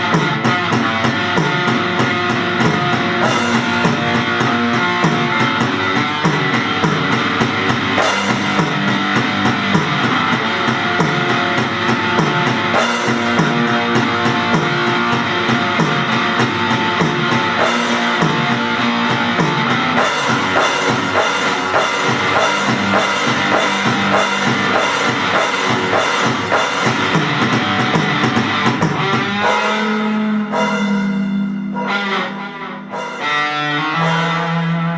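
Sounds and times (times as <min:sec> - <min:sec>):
drum kit beat: 0:00.0 - 0:34.9
guitar: 0:00.0 - 0:34.9
rock band playing: 0:00.0 - 0:34.9.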